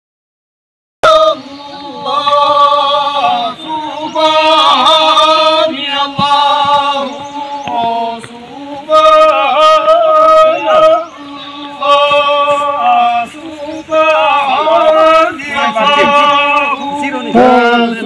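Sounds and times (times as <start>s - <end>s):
voices singing a chant-like song: 1.0s - 18.0s.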